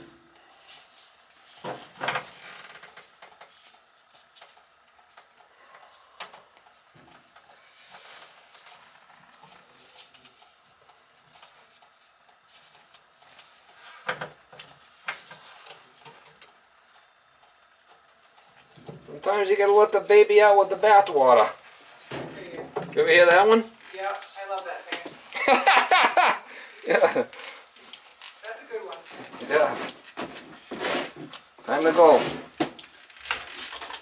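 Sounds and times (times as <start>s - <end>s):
faint hiss: 0.0s - 34.0s.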